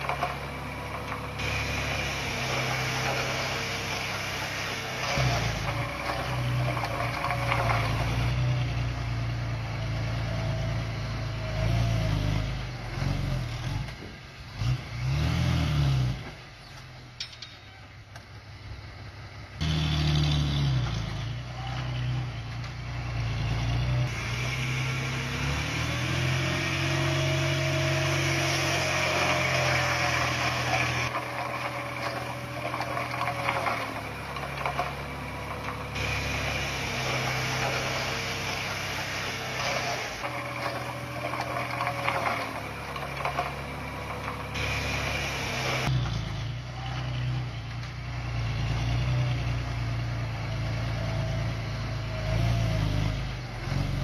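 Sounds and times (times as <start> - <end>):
dozer diesel engine revving: 0.0 - 17.1, 18.8 - 54.0.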